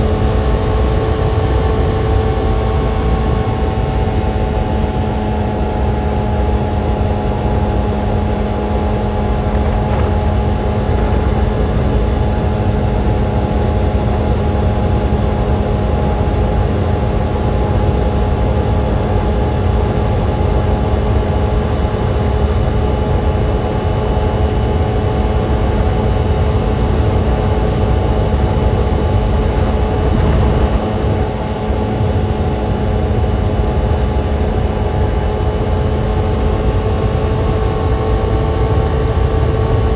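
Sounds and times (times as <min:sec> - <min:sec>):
motorcycle engine running steadily: 0:00.0 - 0:33.1
wind and road noise: 0:00.0 - 0:39.9.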